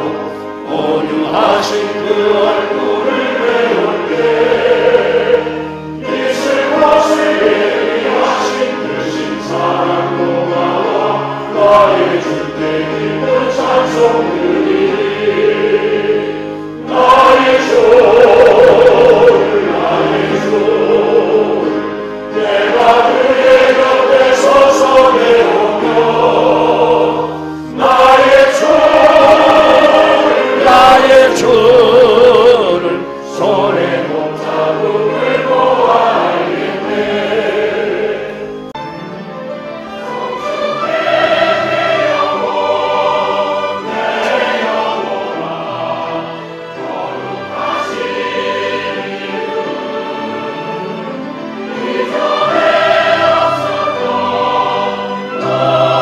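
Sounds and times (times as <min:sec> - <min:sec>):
church choir singing a hymn: 0:00.0 - 0:56.0
sustained accompaniment: 0:00.0 - 0:56.0.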